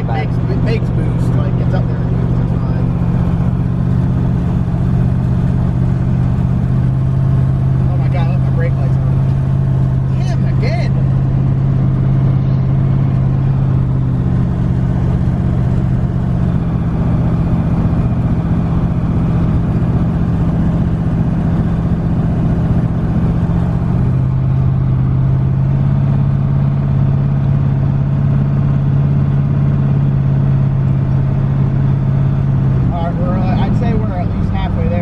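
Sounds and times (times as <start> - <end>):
car engine droning: 0.0 - 35.0.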